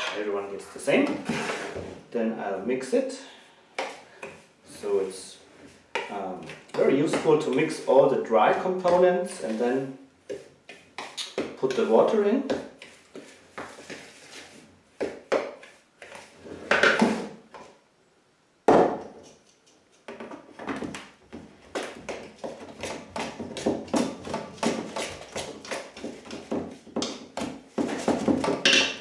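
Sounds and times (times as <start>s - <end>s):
hand stirring flour in a bowl: 0.0s - 16.6s, 21.1s - 29.0s.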